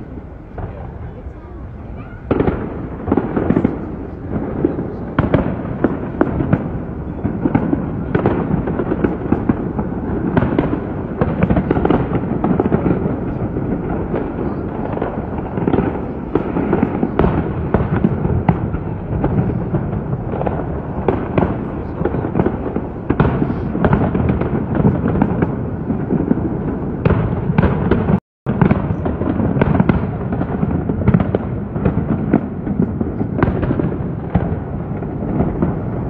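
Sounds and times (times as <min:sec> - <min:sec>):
fireworks bursting with crackling: 0:00.0 - 0:36.0.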